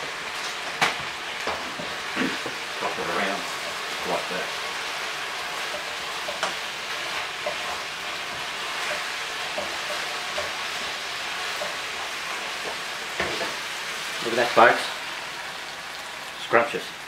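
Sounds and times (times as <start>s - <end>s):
stir-fry sizzling in a wok: 0.0s - 17.0s.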